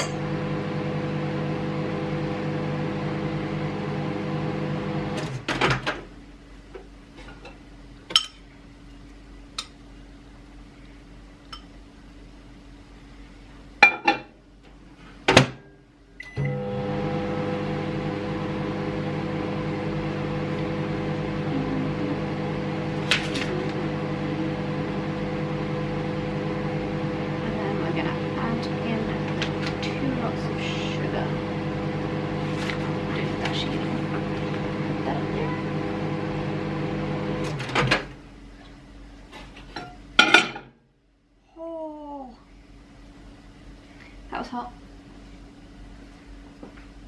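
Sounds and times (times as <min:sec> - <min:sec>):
microwave oven humming: 0:00.0 - 0:47.0.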